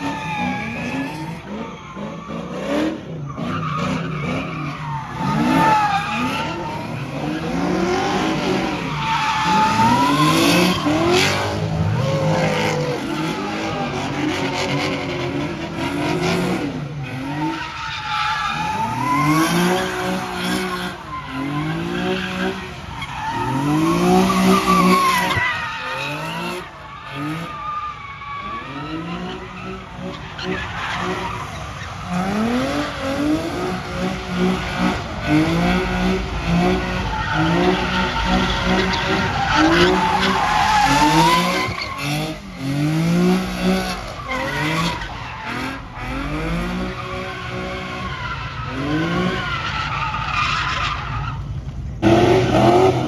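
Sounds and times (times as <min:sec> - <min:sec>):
tyres screeching: 0:00.0 - 0:51.5
car engine revving: 0:00.0 - 0:53.0.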